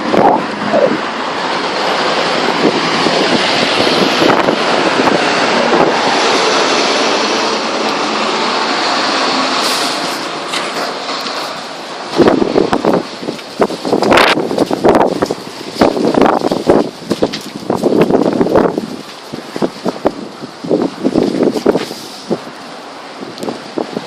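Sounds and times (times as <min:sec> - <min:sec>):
strong wind rushing: 0:00.0 - 0:10.3, 0:11.8 - 0:24.0.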